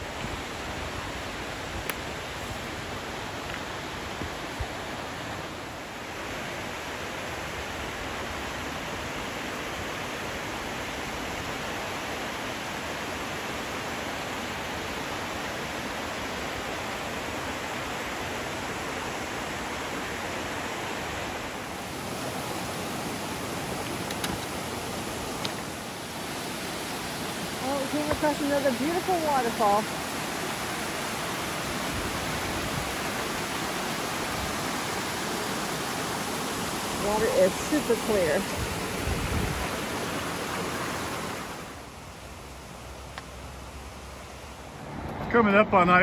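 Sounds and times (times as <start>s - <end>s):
creek rushing over rocks: 0.0s - 46.0s.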